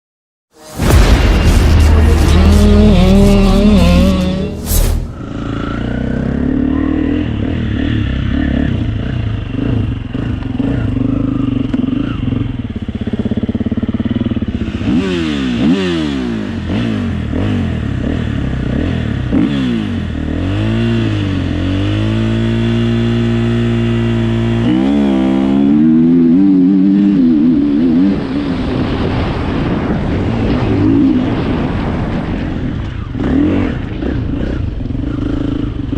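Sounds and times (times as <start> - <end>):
motorcycle engine revving: 0.6 - 35.9.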